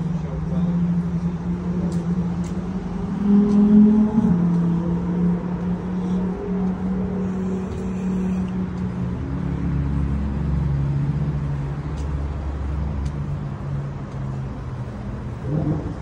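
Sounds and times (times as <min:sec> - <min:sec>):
car engines in slow traffic: 0:00.0 - 0:16.0
deep engine rumble: 0:00.0 - 0:16.0.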